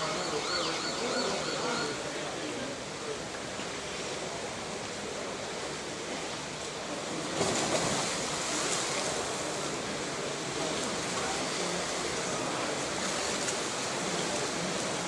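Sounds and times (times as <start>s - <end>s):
pool water splashing: 0.0s - 15.0s.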